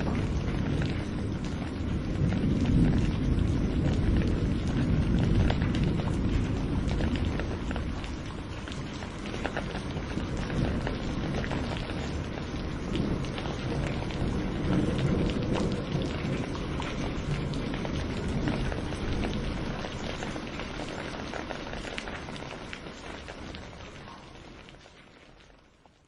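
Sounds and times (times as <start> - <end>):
low thunder rumble: 0.0 - 22.5
raindrops clicking close by: 0.0 - 26.0
steady rain: 0.0 - 26.0.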